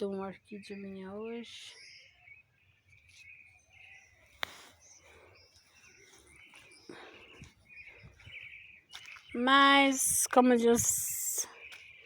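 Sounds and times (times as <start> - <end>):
faint bird chirps: 0.0 - 9.9.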